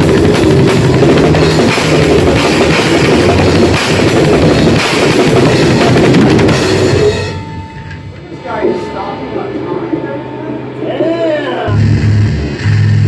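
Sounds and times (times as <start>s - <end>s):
drum kit pounding: 0.0s - 13.0s
grindcore band playing: 0.0s - 13.0s.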